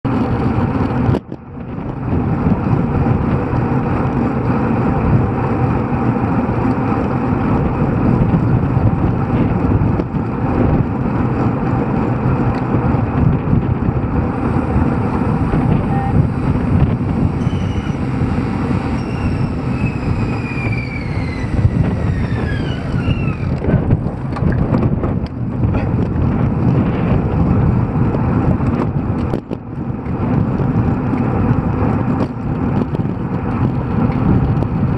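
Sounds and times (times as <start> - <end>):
wind on microphone: 0.0 - 34.9
bike tyres humming on asphalt: 0.1 - 34.9.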